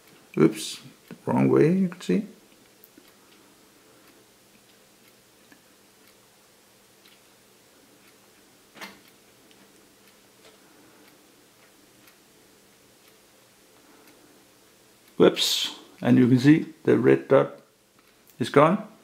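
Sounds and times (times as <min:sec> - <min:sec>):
faint ticks and clicks: 0:00.0 - 0:16.8, 0:17.4 - 0:18.4.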